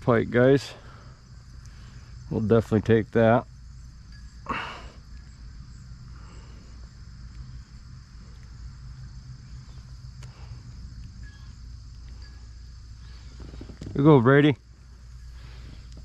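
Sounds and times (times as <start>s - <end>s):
insects chirring: 0.0s - 16.0s
low steady rumble: 0.0s - 16.0s.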